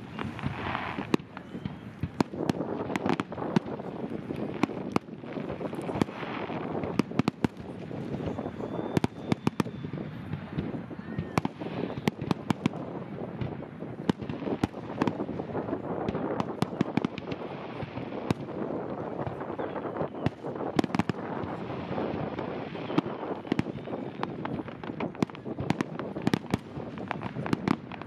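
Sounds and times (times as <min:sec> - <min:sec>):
fireworks bangs: 0:00.0 - 0:28.0
fireworks crackling: 0:00.0 - 0:28.0.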